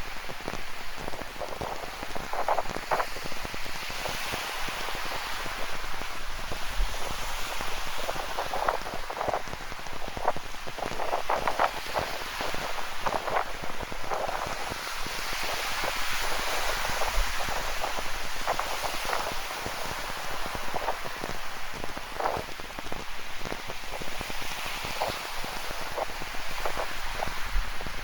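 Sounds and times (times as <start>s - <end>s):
ocean surf hiss: 0.0s - 28.0s.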